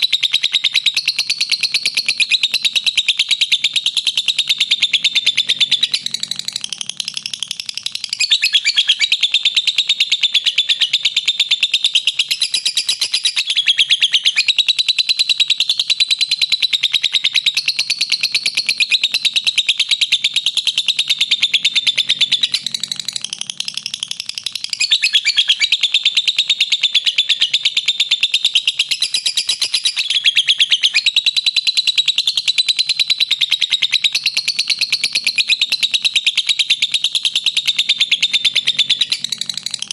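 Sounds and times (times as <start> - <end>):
lovebird shrill trill: 0.1 - 39.9.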